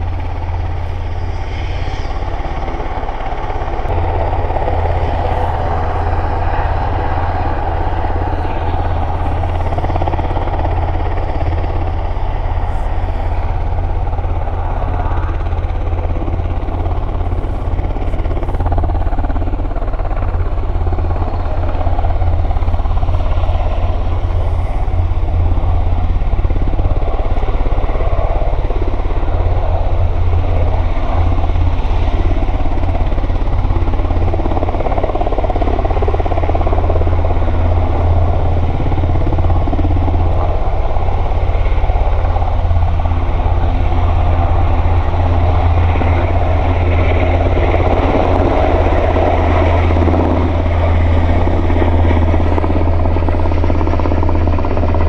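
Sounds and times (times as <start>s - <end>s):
helicopter engines and rotors: 0.0s - 55.0s.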